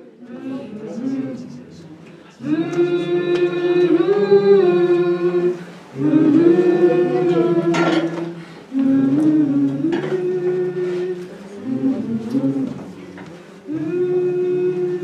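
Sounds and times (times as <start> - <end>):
group singing a cappella: 0.0 - 15.0.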